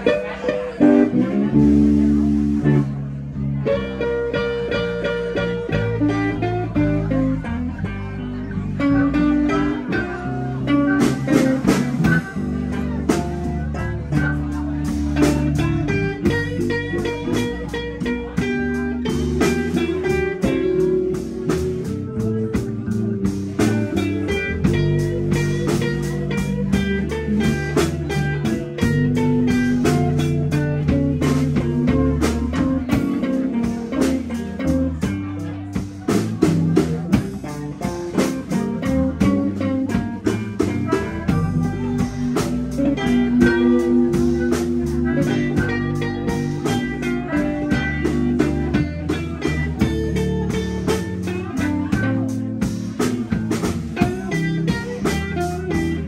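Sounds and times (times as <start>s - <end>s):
drum kit beat: 0.0s - 56.0s
electric bass guitar: 0.0s - 56.0s
electric guitars: 0.0s - 56.0s.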